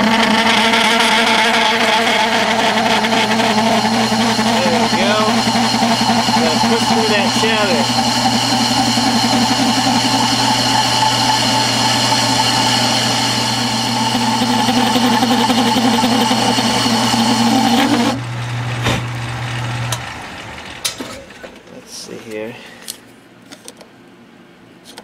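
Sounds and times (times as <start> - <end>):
lathe tool cutting metal: 0.0 - 21.5
lathe motor and gear hum: 0.0 - 22.1.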